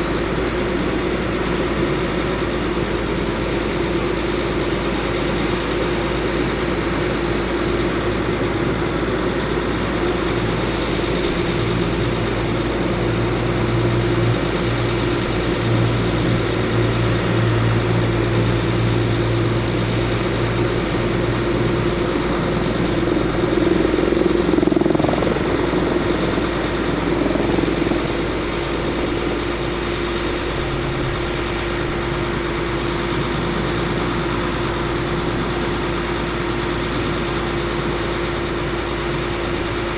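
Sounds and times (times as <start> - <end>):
constant whine: 0.0 - 39.9
diesel engine running: 0.0 - 39.9.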